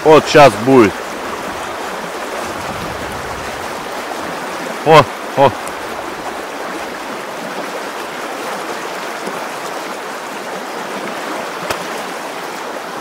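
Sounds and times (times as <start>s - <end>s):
river water rushing over stones: 0.0s - 13.0s.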